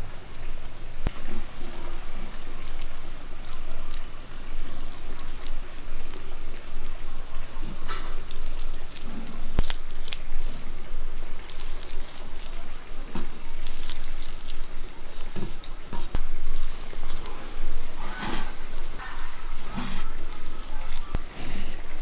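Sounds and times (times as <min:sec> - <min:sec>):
crumbly rustling: 0:00.0 - 0:22.0
hand squelching bananas: 0:00.0 - 0:22.0.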